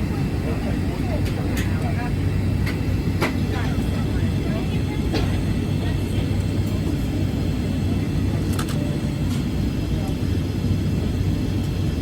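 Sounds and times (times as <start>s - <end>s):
constant low hum: 0.0s - 12.0s
jet engine rumble: 0.0s - 12.0s.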